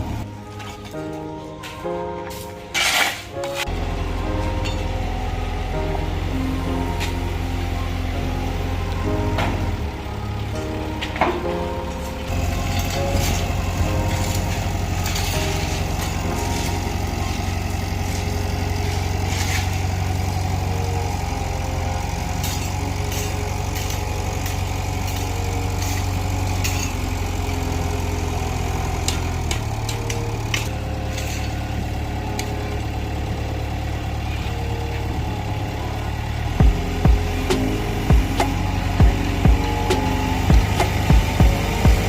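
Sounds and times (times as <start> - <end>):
diesel engine idling: 0.0 - 0.9, 3.6 - 42.0.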